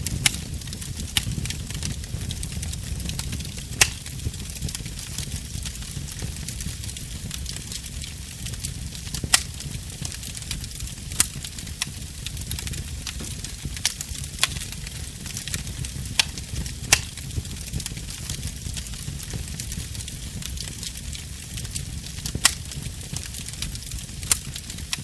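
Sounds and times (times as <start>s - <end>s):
fireplace fire crackling: 0.0s - 25.0s
sharp fire pops: 0.0s - 25.0s.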